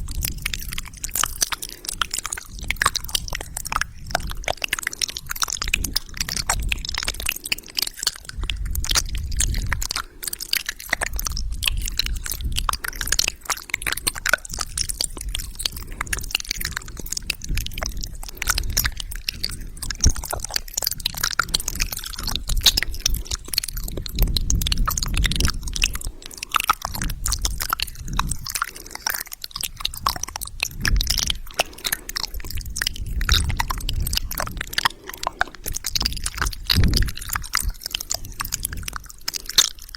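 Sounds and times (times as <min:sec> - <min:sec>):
wet mouth sounds: 0:00.0 - 0:39.9.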